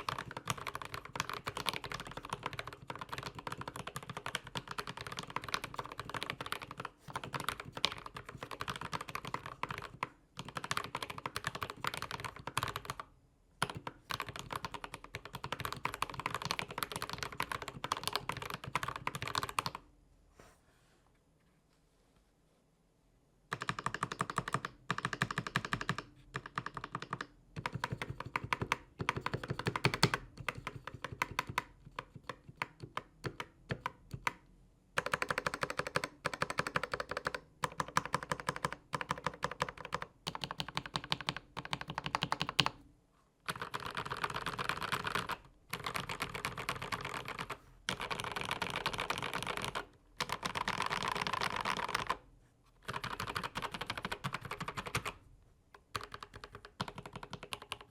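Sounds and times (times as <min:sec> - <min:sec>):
fast typing on mechanical keyboard: 0:00.0 - 0:19.8, 0:23.5 - 0:34.4, 0:35.0 - 0:42.8, 0:43.5 - 0:52.2, 0:52.8 - 0:55.2, 0:55.8 - 0:57.9.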